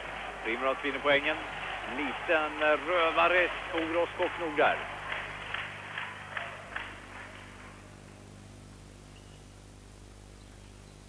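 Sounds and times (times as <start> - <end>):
mains hum and tape hiss: 0.0 - 11.0.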